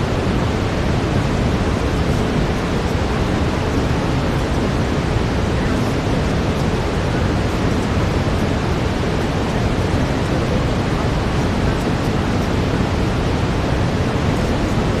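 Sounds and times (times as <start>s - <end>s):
brown noise: 0.0s - 15.0s.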